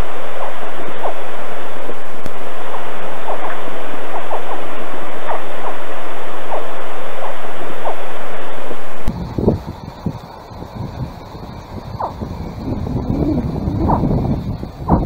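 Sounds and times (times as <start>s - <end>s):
baby alligators chirping: 0.0s - 8.1s, 9.5s - 15.0s
loud steady hiss: 0.0s - 15.0s.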